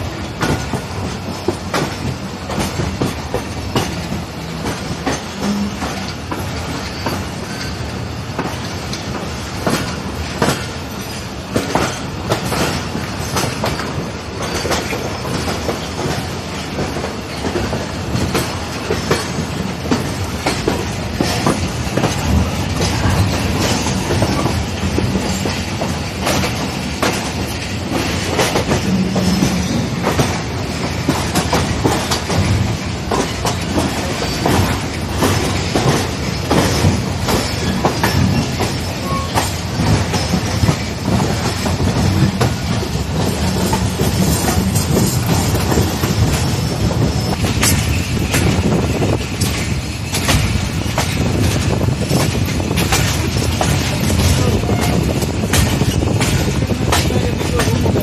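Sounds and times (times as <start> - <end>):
train rumbling: 0.0 - 58.0
train wheels clicking on rail joints: 0.0 - 58.0.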